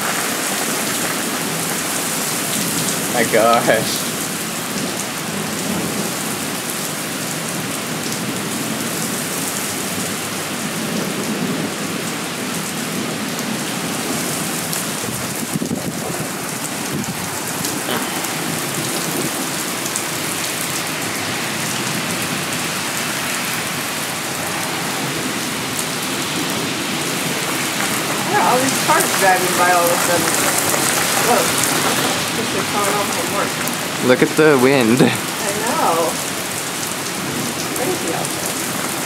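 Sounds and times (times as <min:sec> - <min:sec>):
heavy rain pouring: 0:00.0 - 0:39.0
wind: 0:00.0 - 0:39.0.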